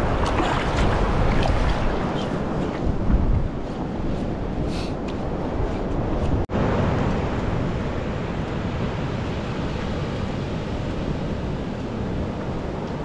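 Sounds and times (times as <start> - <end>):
ocean surf: 0.0 - 13.0
wind: 0.0 - 13.0.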